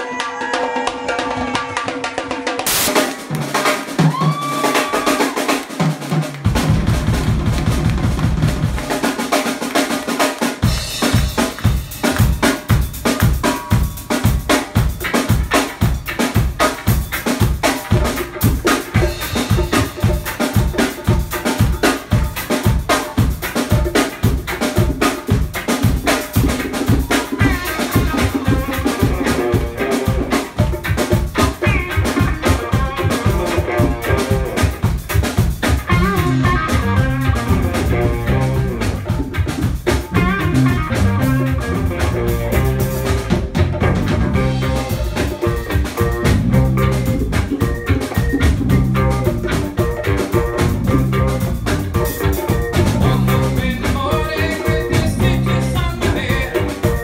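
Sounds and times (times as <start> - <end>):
reggae band playing: 0.0 - 57.0.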